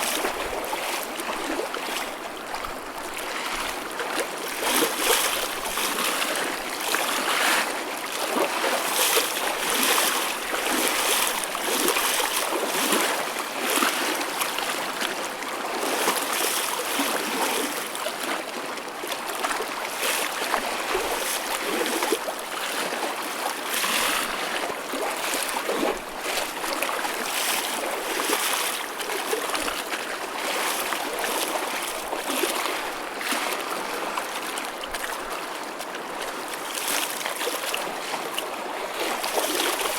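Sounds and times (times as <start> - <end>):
choppy ocean waves splashing: 0.0 - 39.9.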